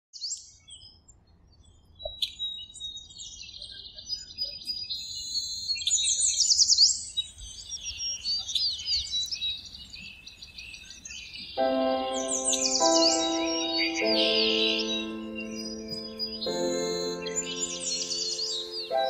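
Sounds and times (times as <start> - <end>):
songbirds chirping and trilling: 0.2 - 19.0.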